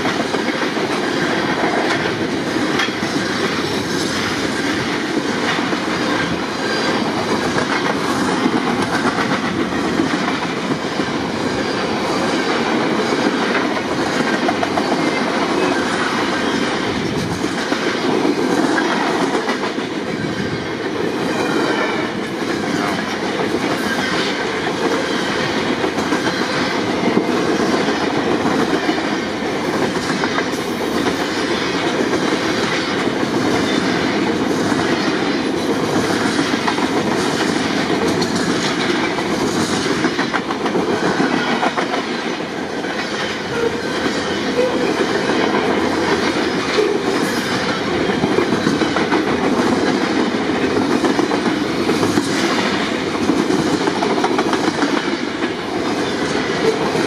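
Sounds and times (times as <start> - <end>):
clickety-clack of wheel clicks: 0.0 - 10.9, 12.6 - 20.1, 22.4 - 43.4, 45.2 - 57.0
train wheels on rails: 0.0 - 57.0.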